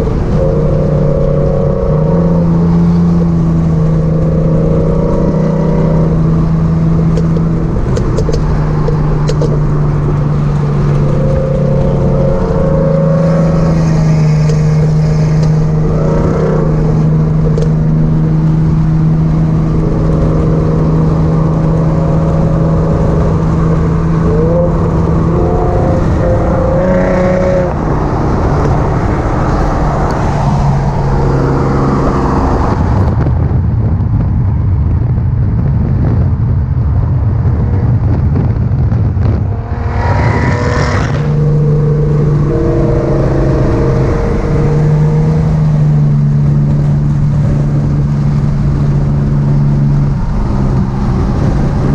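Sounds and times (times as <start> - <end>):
car engine droning: 0.0 - 51.9
road noise: 0.0 - 51.9.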